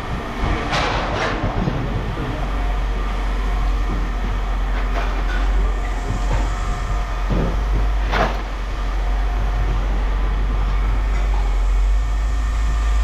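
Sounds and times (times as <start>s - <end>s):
heavy machinery drone: 0.0s - 13.0s.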